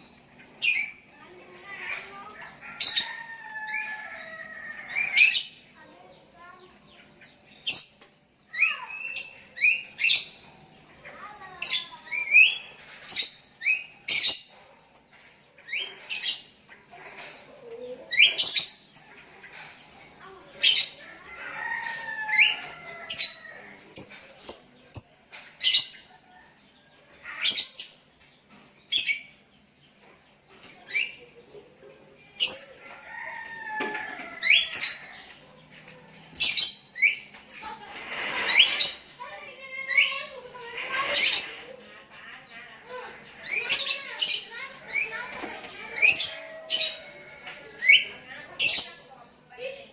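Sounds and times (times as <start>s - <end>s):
birds chirping sharply: 0.0s - 49.9s.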